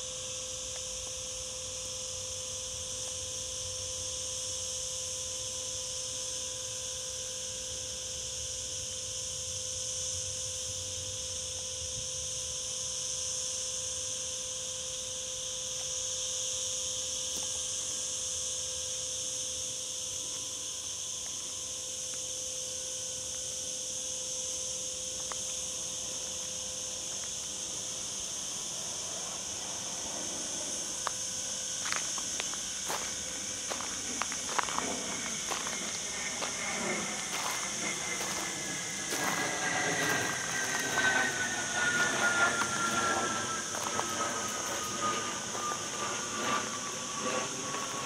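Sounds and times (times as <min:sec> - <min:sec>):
cicadas buzzing: 0:00.0 - 0:48.0.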